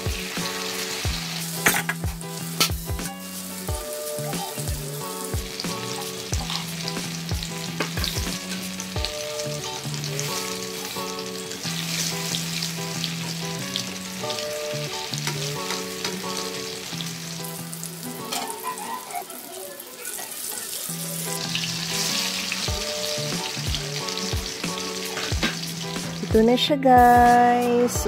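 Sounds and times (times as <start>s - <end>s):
food deep-frying in oil: 0.0s - 26.4s.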